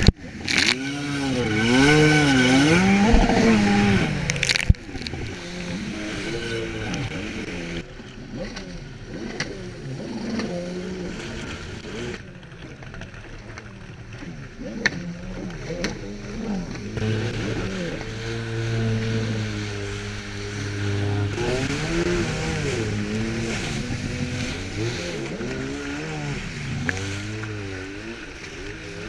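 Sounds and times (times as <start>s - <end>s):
distant watercraft engine: 0.0s - 29.0s
watercraft engine revving: 0.0s - 29.0s.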